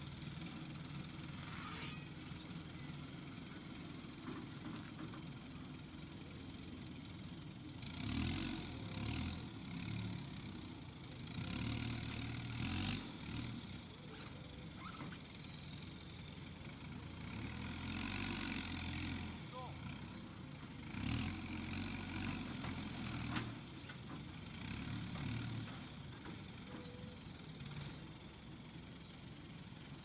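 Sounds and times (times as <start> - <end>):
diesel engines running: 0.0 - 30.0
telehandler engine revving: 0.0 - 30.0.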